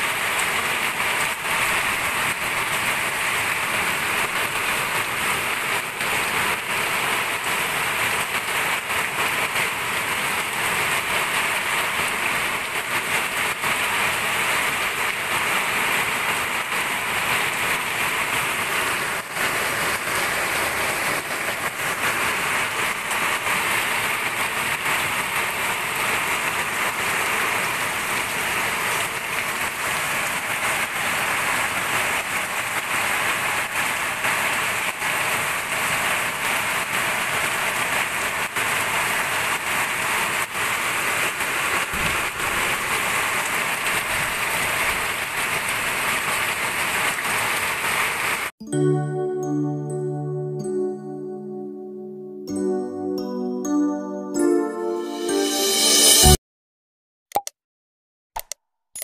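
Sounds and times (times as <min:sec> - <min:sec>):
heavy rain falling: 0:00.0 - 0:48.5.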